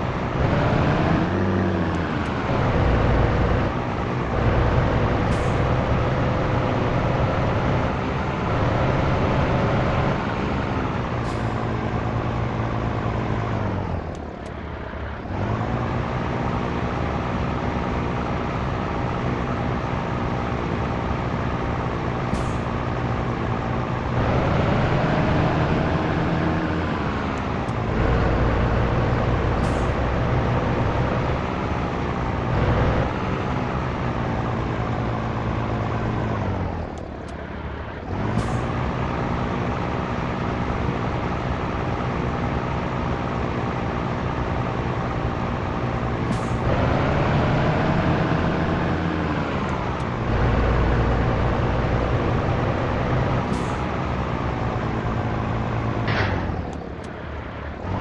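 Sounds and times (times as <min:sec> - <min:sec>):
truck diesel engine revving: 0:00.0 - 0:58.0.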